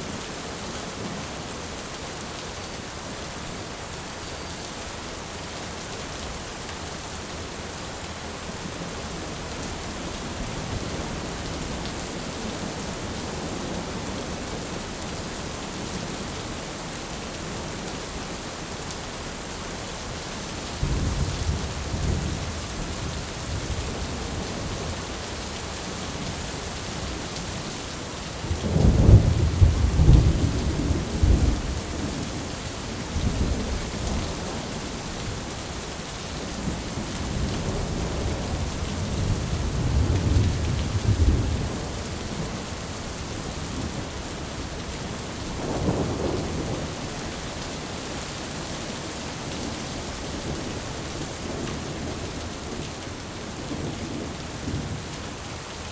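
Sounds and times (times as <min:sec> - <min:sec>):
rain on a tin roof: 0:00.0 - 0:55.9.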